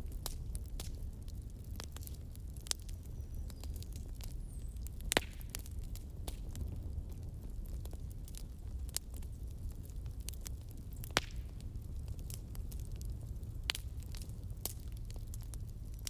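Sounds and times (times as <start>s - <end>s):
campfire flames rumbling: 0.0s - 16.0s
fire crackles and pops: 0.0s - 16.0s.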